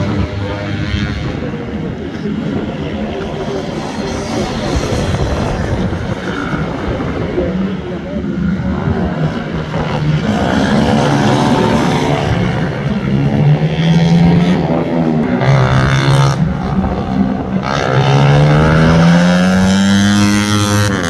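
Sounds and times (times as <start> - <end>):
small engines buzzing and revving: 0.0 - 21.0.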